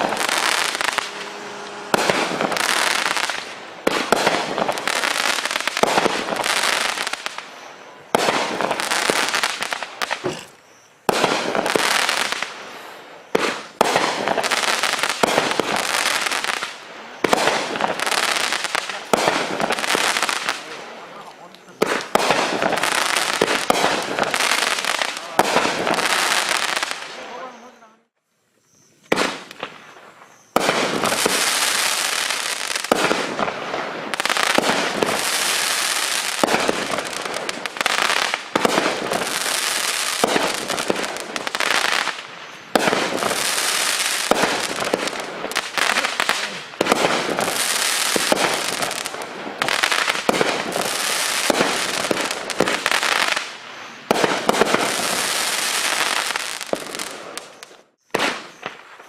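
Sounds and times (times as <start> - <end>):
fireworks crackling and popping: 0.0 - 28.2, 29.0 - 59.0.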